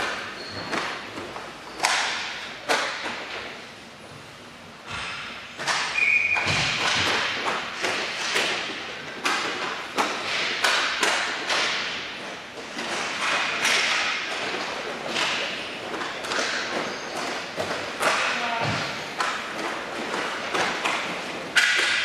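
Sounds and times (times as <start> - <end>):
hockey sticks striking puck: 0.0 - 3.5, 4.9 - 22.0.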